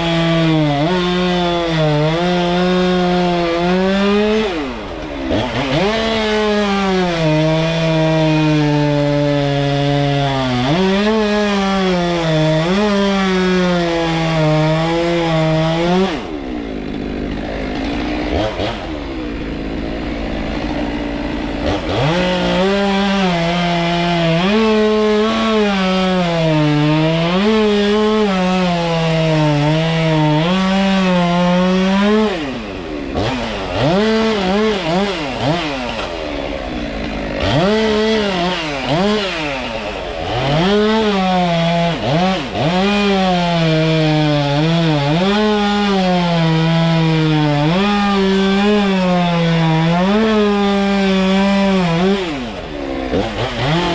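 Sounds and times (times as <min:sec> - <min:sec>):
chainsaw cutting through wood: 0:00.0 - 0:53.9
chainsaw revving: 0:00.0 - 0:53.9.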